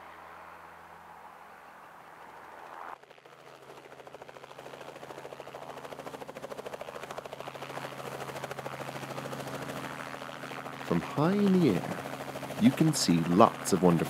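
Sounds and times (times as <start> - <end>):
helicopter engine hum: 0.0 - 14.0
helicopter rotor beating: 2.1 - 14.0.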